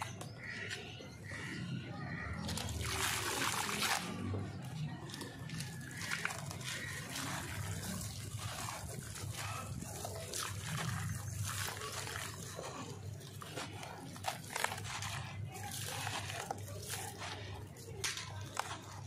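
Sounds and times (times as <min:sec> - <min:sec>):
water fizzing and crackling: 0:02.2 - 0:19.0.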